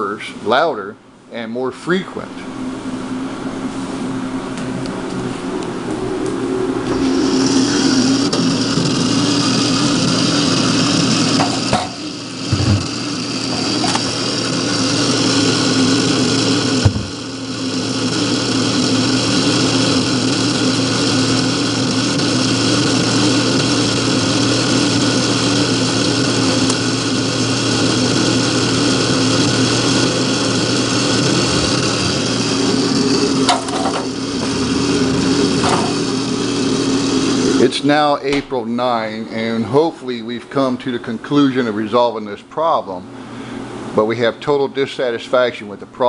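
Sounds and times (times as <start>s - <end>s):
freezer fan humming: 0.0s - 46.0s.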